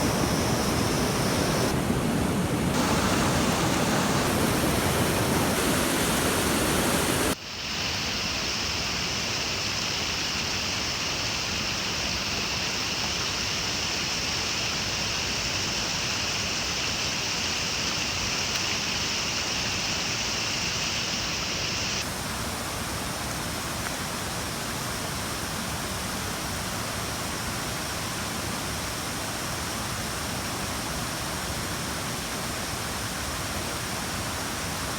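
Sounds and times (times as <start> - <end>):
faint high steady hiss: 0.0 - 34.9
rushing water: 0.0 - 34.9.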